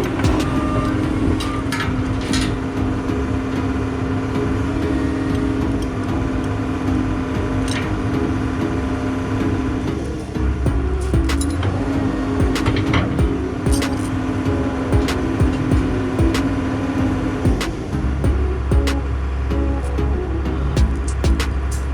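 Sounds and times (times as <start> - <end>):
backhoe engine under load: 0.0 - 21.9.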